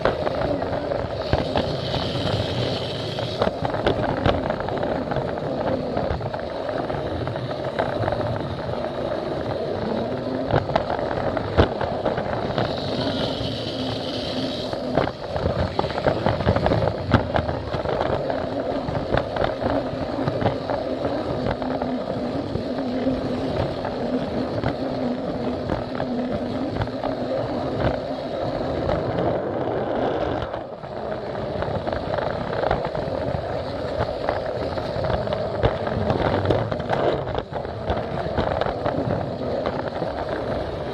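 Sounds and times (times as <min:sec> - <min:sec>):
toy train motor humming: 0:00.0 - 0:40.9
wheels clicking over rail joints: 0:00.0 - 0:40.9.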